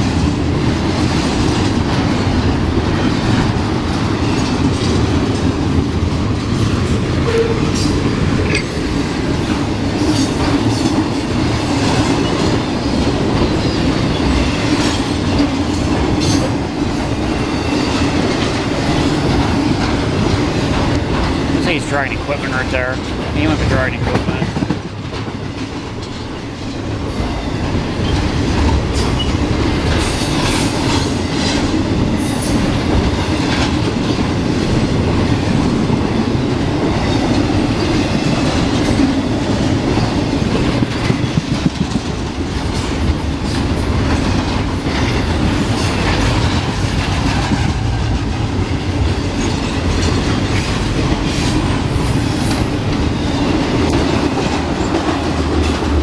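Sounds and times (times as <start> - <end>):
freight train rumble: 0.0 - 56.0
train wheels clacking: 0.0 - 56.0.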